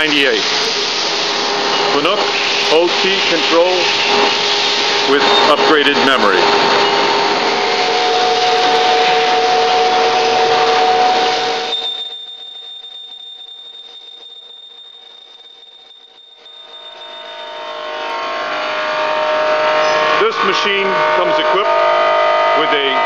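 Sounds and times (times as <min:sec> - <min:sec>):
lathe humming: 0:00.0 - 0:23.0.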